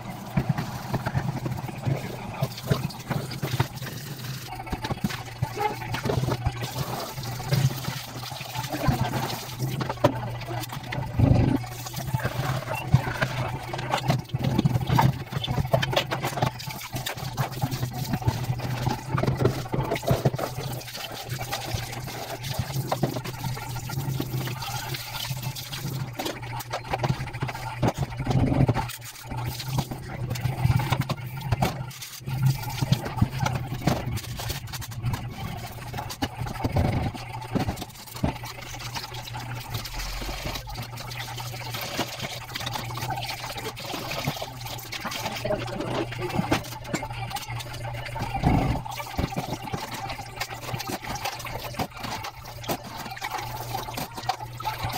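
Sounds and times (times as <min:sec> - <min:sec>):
tap water running into sink: 0:00.0 - 0:54.9.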